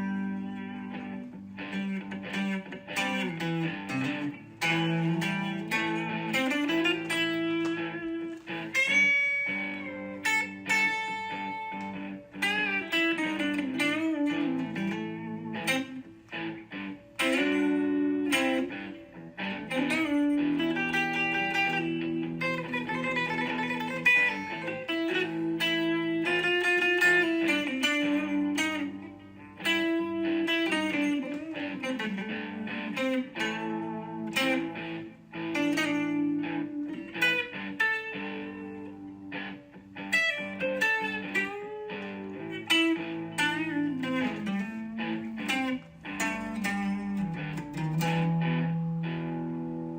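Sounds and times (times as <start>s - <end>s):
plucked guitar melody: 0.0s - 49.9s.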